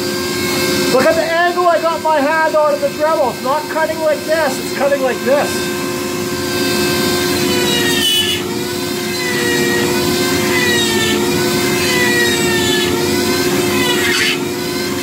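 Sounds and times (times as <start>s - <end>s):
rotary tool whining carving wood: 0.0s - 15.0s.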